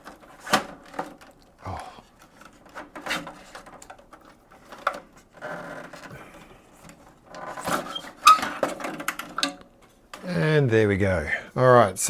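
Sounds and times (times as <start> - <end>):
hands clicking and tapping parts: 0.0 - 10.2
plastic parts clattering: 0.0 - 10.4.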